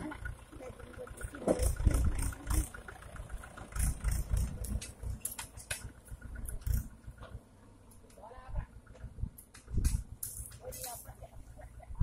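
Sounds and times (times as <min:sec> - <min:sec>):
sharp clicks and rattles: 0:00.0 - 0:08.2, 0:08.8 - 0:11.3
tractor diesel engine rumble: 0:00.0 - 0:12.0.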